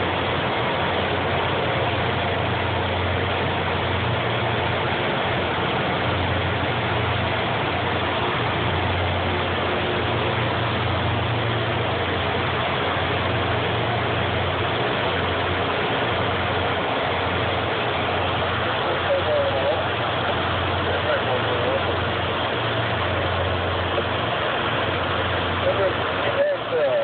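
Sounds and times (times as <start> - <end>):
diesel engines running: 0.0 - 27.0
loud dense rush of noise: 0.0 - 27.0.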